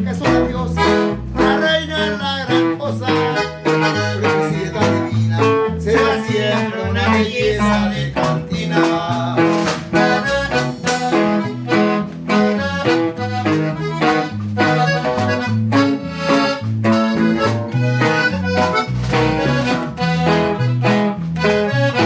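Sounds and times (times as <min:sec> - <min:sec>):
button accordion melody: 0:00.0 - 0:22.0
electric bass: 0:00.0 - 0:22.0
strummed guitar chords: 0:00.0 - 0:22.0
drums steady beat: 0:03.0 - 0:22.0.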